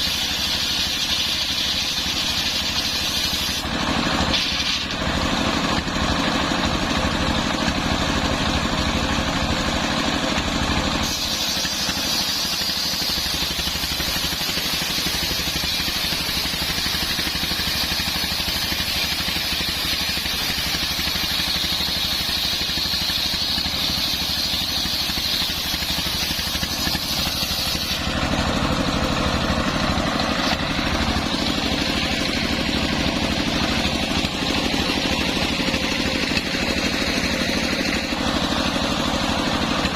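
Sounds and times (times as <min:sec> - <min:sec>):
circular sawmill engine running: 0:00.0 - 0:39.9
saw blade cutting log: 0:00.0 - 0:39.9.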